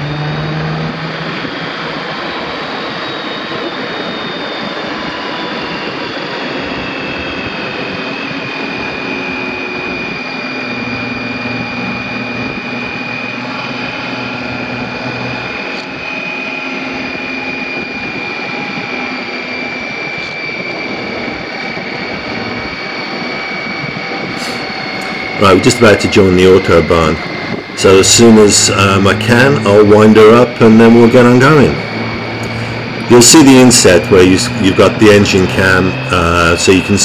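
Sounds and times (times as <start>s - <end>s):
motorcycle engine riding: 0.0s - 37.0s
road noise: 0.0s - 37.0s
thin high whine: 0.0s - 37.0s
wind noise: 0.0s - 37.0s.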